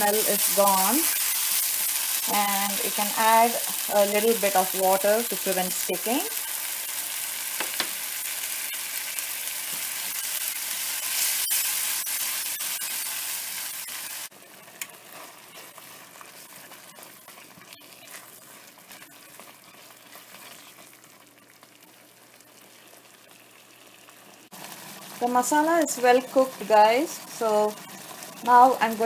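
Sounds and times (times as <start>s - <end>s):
paste sizzling in frying pan: 0.0s - 29.0s.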